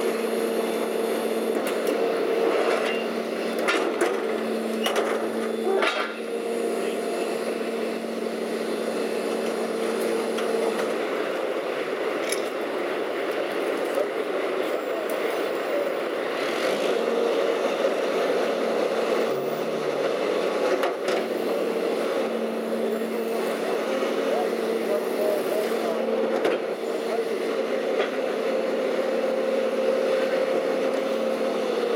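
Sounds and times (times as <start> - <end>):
garbage truck engine humming: 0.0 - 31.9.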